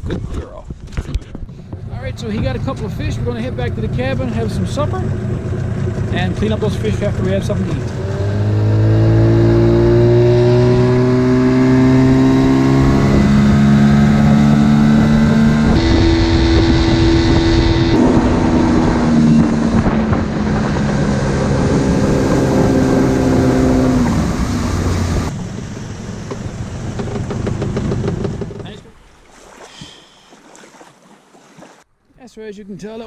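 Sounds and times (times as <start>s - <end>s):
outboard motor running: 1.0s - 31.8s.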